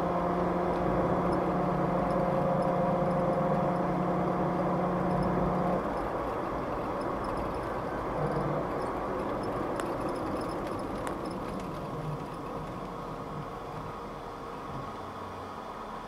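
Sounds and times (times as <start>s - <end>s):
car engine and tyres in cabin: 0.0s - 16.0s.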